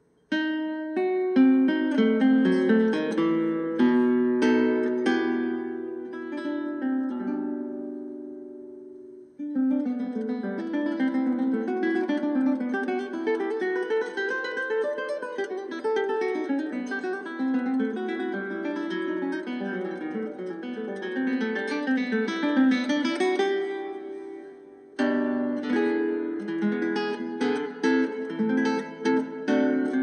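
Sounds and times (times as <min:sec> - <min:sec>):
acoustic guitar picking: 0:01.3 - 0:08.2, 0:08.9 - 0:30.0.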